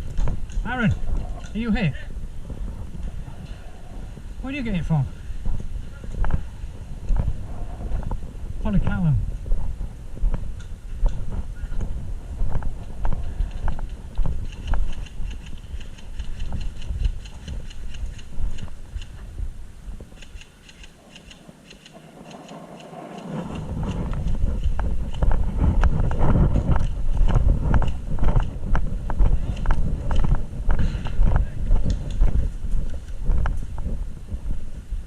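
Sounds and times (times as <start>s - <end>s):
rumbling microphone noise: 0.0s - 20.2s, 21.3s - 35.0s
footsteps on rough ground: 0.0s - 35.0s.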